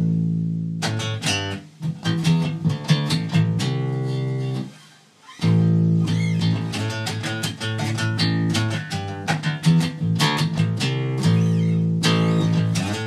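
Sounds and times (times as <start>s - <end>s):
electric bass plucked riff: 0.0s - 4.7s, 5.4s - 13.0s.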